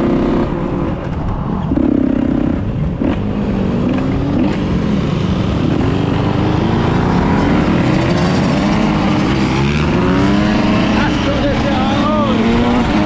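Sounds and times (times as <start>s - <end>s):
two-stroke engine accelerating: 0.0s - 13.0s.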